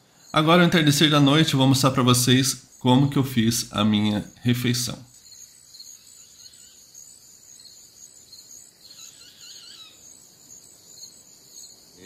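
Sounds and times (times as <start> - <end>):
insects trilling: 0.0 - 12.0
soft insect chirps: 0.0 - 12.0.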